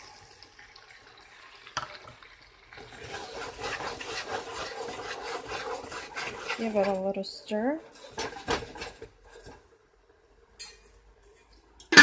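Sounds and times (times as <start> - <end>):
oil sizzling and crackling: 0.0 - 10.2.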